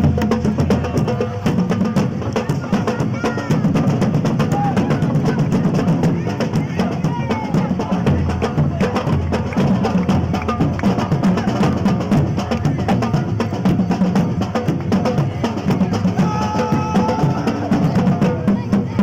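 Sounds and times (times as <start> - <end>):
band playing drums: 0.0 - 19.0
fast rhythmic clicking percussion: 0.0 - 19.0.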